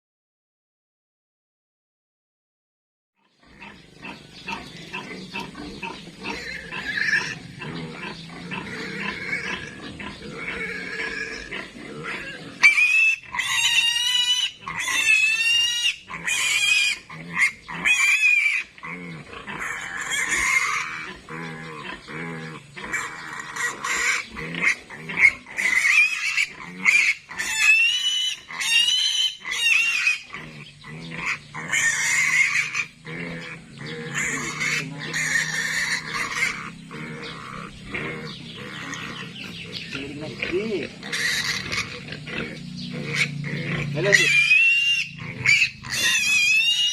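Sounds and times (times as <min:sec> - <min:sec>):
piglets squealing: 0:03.2 - 0:46.9.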